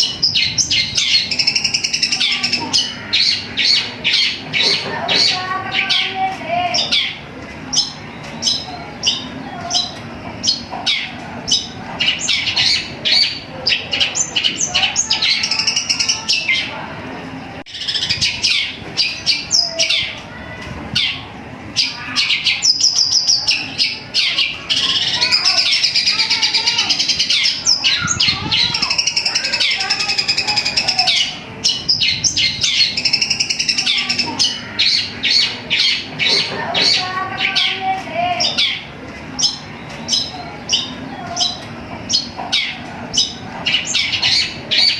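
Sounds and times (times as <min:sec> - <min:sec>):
bird chirping and trilling: 0:00.0 - 0:44.9.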